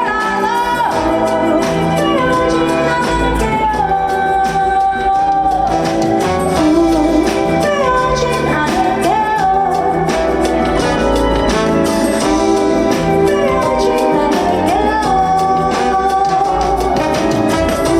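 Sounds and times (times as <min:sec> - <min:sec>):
band playing: 0:00.0 - 0:17.9
woman singing: 0:00.0 - 0:17.9.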